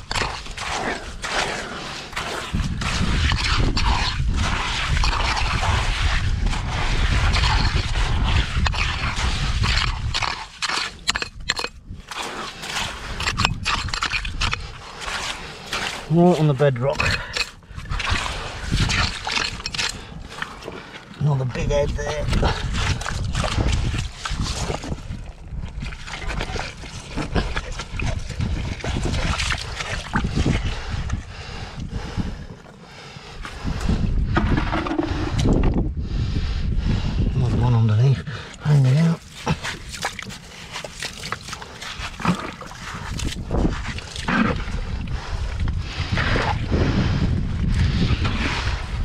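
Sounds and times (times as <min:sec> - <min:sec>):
digging in wet gravel: 0:00.0 - 0:31.7, 0:37.5 - 0:47.3
wind buffeting microphone: 0:02.2 - 0:16.2, 0:16.9 - 0:40.4, 0:41.8 - 0:49.0.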